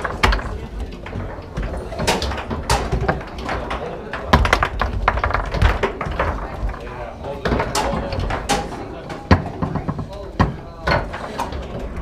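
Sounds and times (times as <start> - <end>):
foosball ball knocks and clacks: 0.0 - 12.0
murmur of crowd talking: 0.0 - 12.0.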